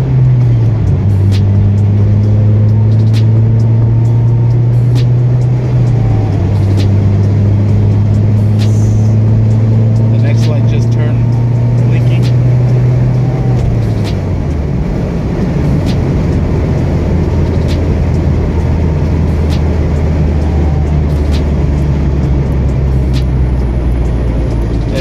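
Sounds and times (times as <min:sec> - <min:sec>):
car engine and road drone: 0:00.0 - 0:25.0.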